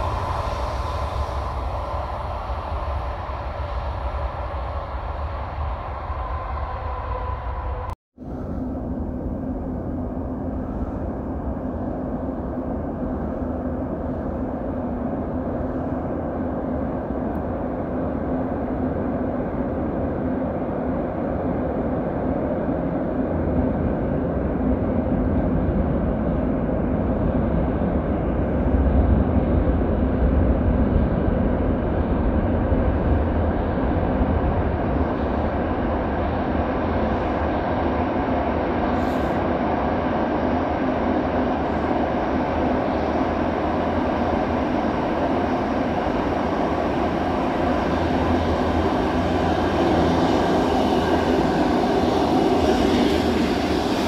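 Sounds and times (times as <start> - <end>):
steady hum: 0.0 - 54.0
train rumbling through tunnel: 0.0 - 54.0.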